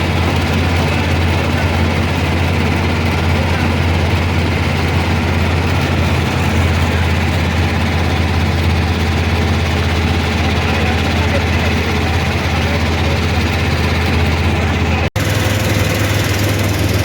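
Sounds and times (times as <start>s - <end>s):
engine running with low hum: 0.0s - 17.0s.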